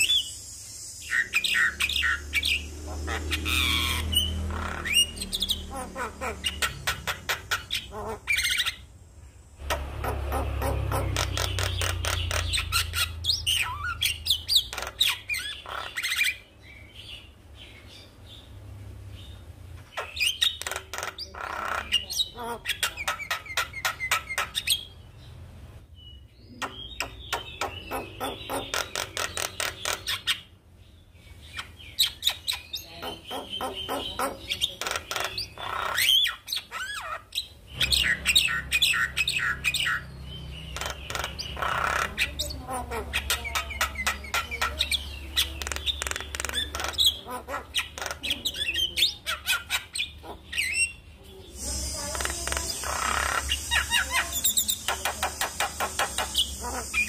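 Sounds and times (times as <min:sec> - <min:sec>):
bird chattering and whistling: 0:00.0 - 0:08.9, 0:09.6 - 0:17.0, 0:19.9 - 0:25.0, 0:26.4 - 0:30.5, 0:31.5 - 0:57.0.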